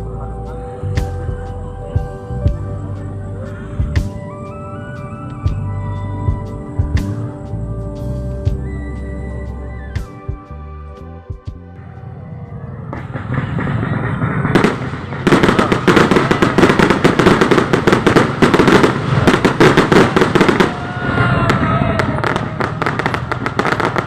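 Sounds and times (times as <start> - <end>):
fireworks crackling: 0.0 - 10.2, 12.5 - 24.0
firework whistles: 3.4 - 10.6, 11.8 - 24.0.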